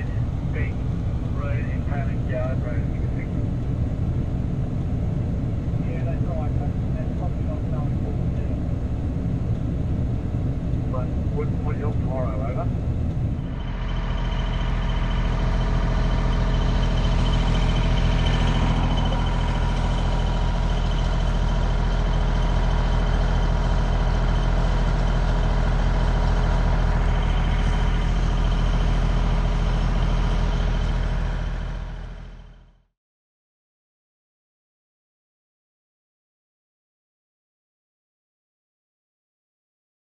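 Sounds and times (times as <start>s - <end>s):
fire truck engine idling: 0.0s - 32.8s.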